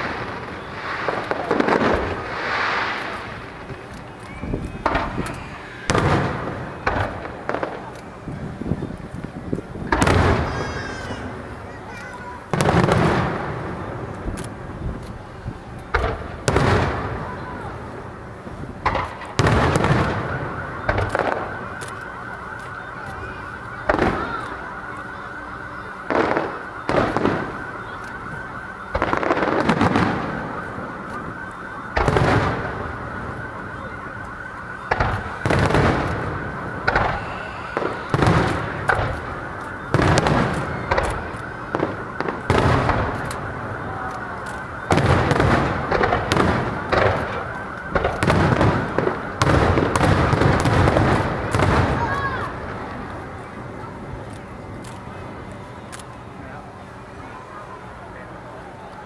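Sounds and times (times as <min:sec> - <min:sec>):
fireworks booming: 0:00.0 - 0:59.0
steady background noise: 0:00.0 - 0:59.0.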